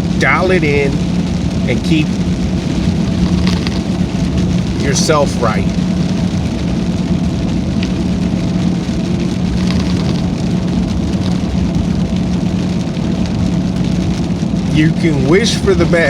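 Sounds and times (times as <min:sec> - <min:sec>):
road noise rushing: 0:00.0 - 0:14.8
truck engine hum: 0:00.0 - 0:16.0.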